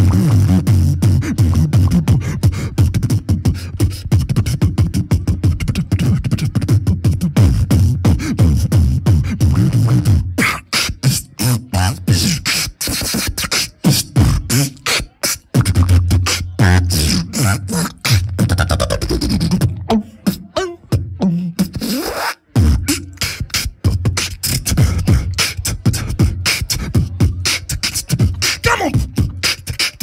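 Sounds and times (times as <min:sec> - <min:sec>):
beatboxing: 0:00.0 - 0:30.0
heavy bass: 0:00.0 - 0:30.0.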